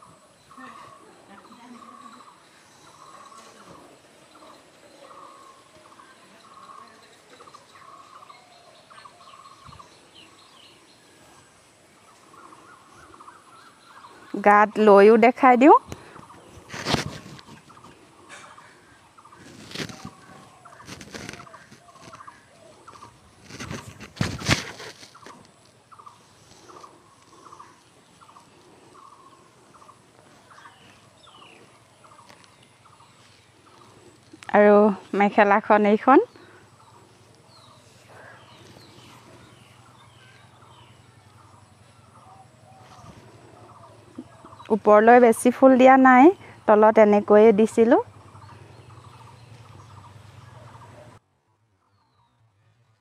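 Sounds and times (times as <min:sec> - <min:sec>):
birds trilling: 0:00.0 - 0:52.7.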